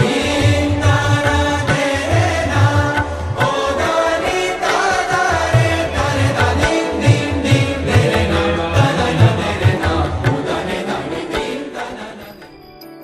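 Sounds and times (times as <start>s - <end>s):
devotional chant music: 0.0s - 13.0s.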